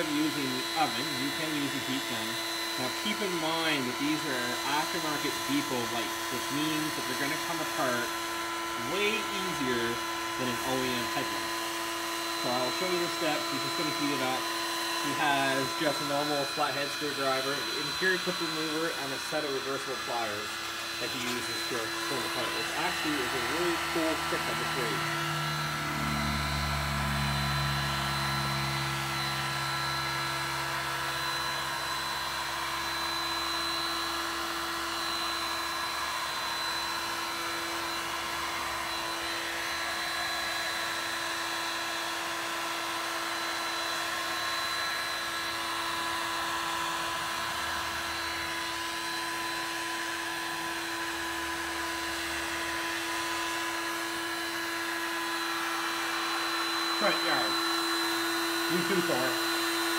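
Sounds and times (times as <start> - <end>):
heat gun running: 0.0 - 59.9.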